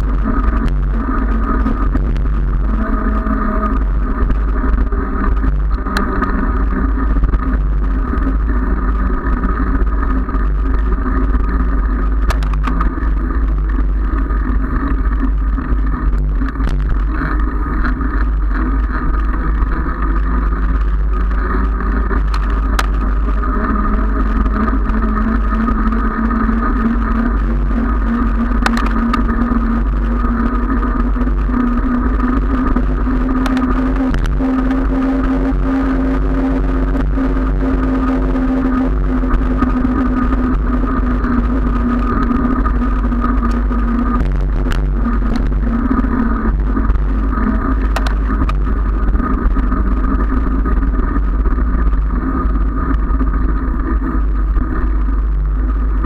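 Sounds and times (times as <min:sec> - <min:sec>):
vehicle and road hum: 0:00.0 - 0:56.0
wind rumble on microphone: 0:00.0 - 0:56.0.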